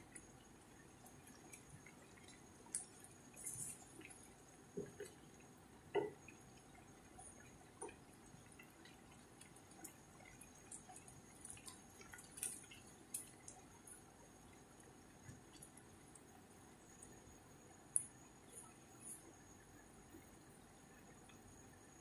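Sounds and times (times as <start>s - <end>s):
liquid bubbling in frying pan: 0.0s - 22.0s.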